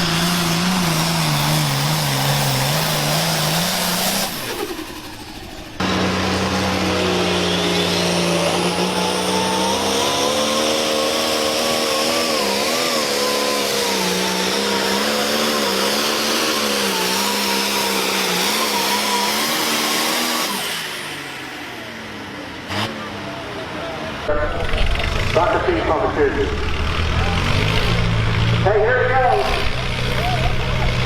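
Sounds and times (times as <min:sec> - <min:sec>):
tractor engine at full throttle: 0:00.0 - 0:31.0.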